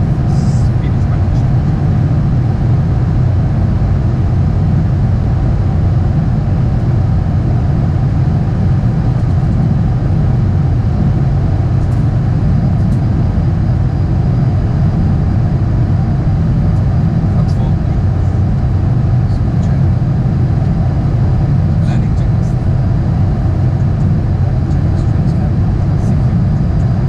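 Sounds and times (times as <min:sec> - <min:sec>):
aircraft cockpit low rumble: 0:00.0 - 0:27.0.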